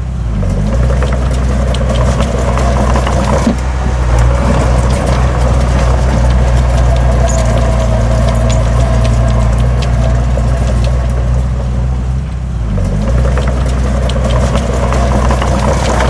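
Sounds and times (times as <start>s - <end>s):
heavy diesel engine running: 0.0s - 16.0s
metal clanks and rattles: 0.4s - 16.0s.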